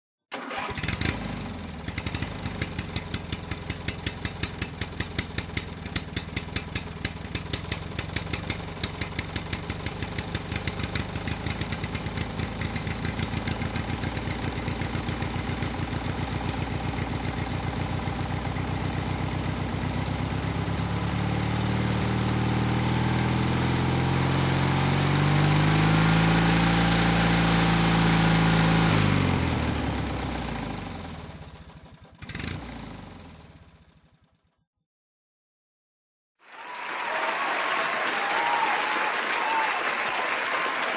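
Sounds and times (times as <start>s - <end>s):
engine running and revving: 0.6s - 34.0s.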